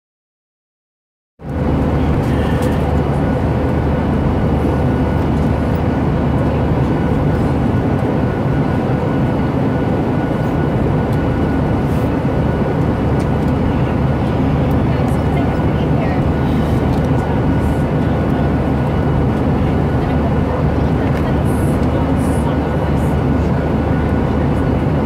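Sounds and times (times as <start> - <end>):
jet airliner cabin drone: 1.4 - 25.0.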